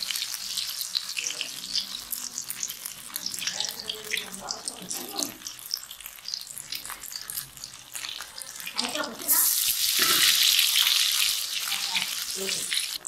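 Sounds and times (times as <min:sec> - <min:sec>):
food deep-frying in oil: 0:00.0 - 0:13.0
loud sizzle of battered food: 0:00.0 - 0:13.0.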